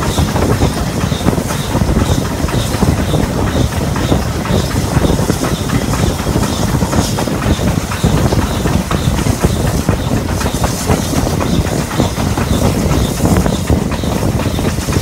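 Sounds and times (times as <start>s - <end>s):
steam locomotive working: 0.0s - 15.0s
wheels clattering over rails: 0.0s - 15.0s.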